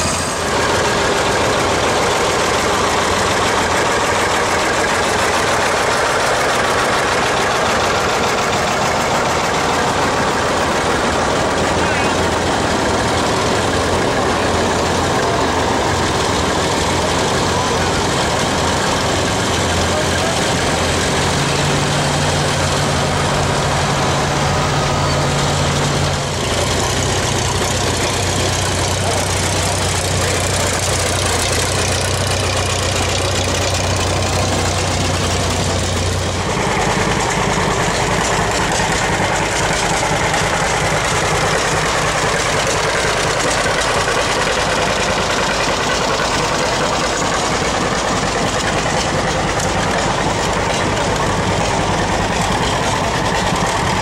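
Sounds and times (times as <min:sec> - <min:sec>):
tractor engines running: 0:00.0 - 0:54.0.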